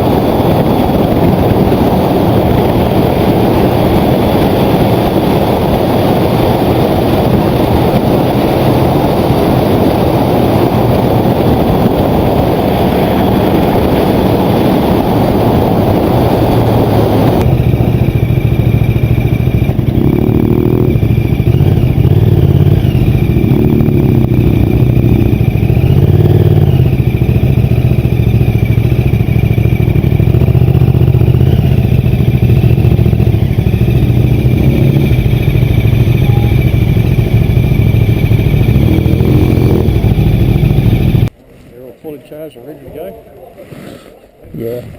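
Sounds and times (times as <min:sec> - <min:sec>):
motorcycle engine revving: 0:00.0 - 0:41.3
wind noise: 0:00.0 - 0:41.4.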